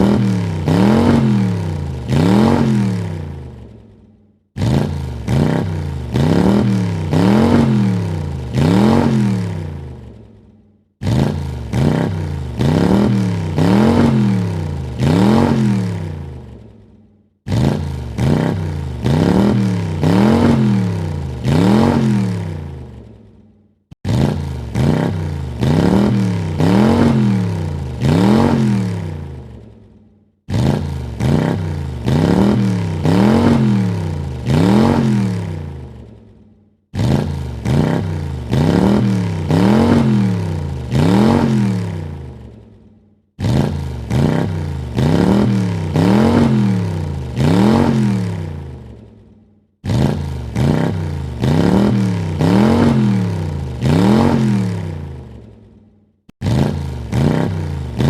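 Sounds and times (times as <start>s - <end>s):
car engine revving: 0.0s - 3.8s, 4.6s - 10.3s, 11.0s - 16.7s, 17.5s - 23.1s, 24.0s - 29.8s, 30.5s - 36.3s, 36.9s - 42.6s, 43.4s - 49.0s, 49.8s - 55.5s, 56.4s - 58.0s.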